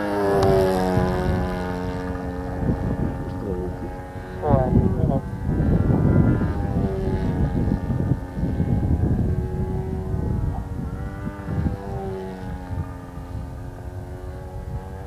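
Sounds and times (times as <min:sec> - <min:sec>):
model plane motor droning: 0:00.0 - 0:15.0
wind rumble on microphone: 0:00.0 - 0:15.0.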